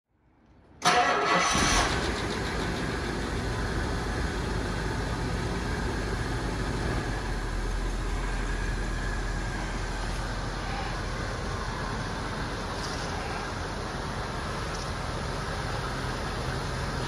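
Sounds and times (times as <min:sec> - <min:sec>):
car engine starting and idling: 0:00.7 - 0:17.0.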